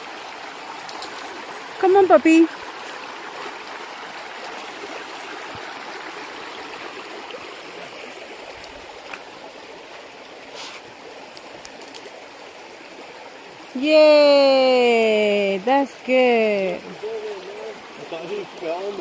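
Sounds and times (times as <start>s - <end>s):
river flowing over rocks: 0.0s - 19.0s.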